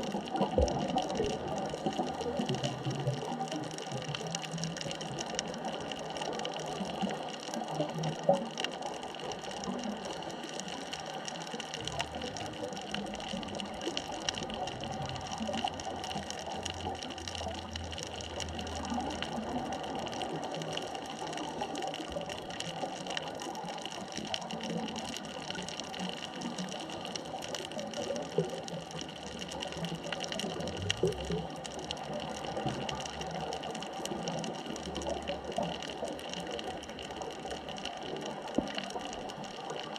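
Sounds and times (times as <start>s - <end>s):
underwater crackling hiss: 0.0s - 39.9s.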